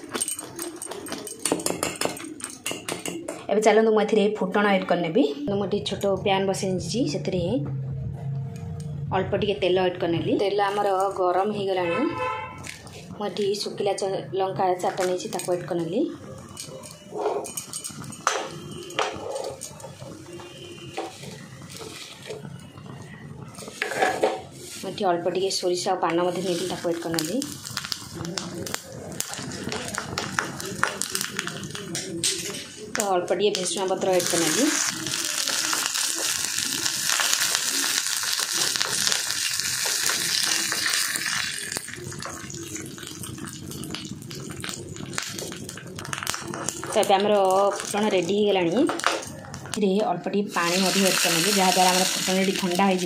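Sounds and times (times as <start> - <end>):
chillies sizzling in hot oil: 10.3 - 53.0.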